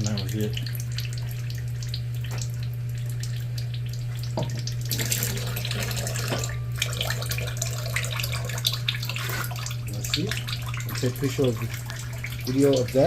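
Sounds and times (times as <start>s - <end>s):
oil pouring into drain pan: 0.0s - 13.0s
steady low hum: 0.0s - 13.0s.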